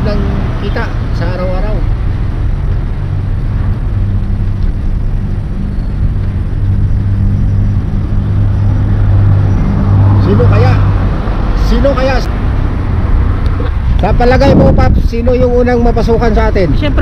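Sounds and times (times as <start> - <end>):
road traffic noise: 0.0 - 17.0
vehicle engine idling: 0.0 - 17.0.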